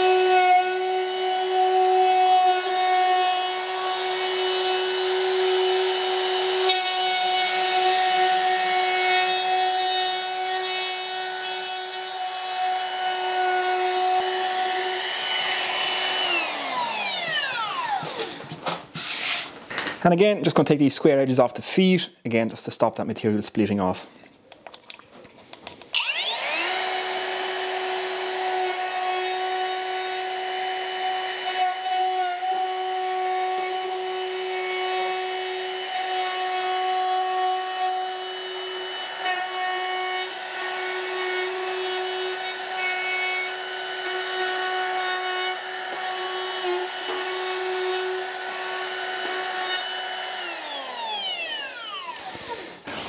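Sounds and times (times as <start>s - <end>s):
trim router whining: 0.0s - 18.6s, 25.9s - 53.0s.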